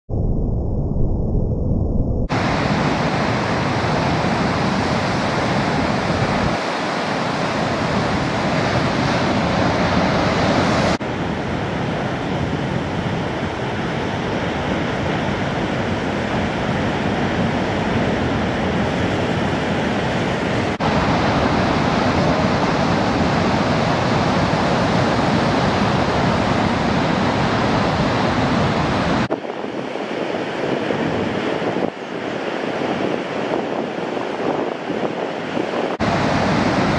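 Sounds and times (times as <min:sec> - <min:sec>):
wind buffeting microphone: 0:00.1 - 0:36.9
ocean waves breaking: 0:02.3 - 0:36.9.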